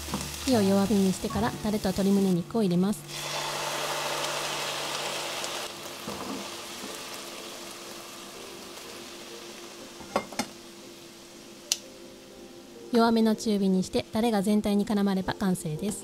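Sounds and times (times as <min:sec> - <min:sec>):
peppers sizzling in frying pan: 0:00.0 - 0:13.8.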